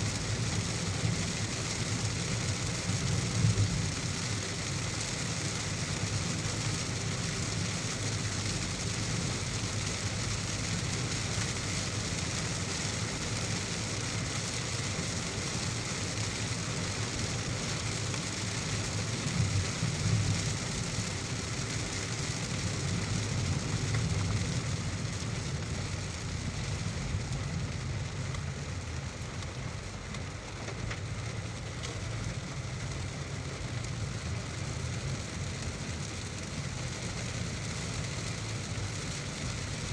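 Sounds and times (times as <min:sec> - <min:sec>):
car driving on wet road: 0:00.0 - 0:39.9
heavy rain hissing: 0:00.0 - 0:39.9.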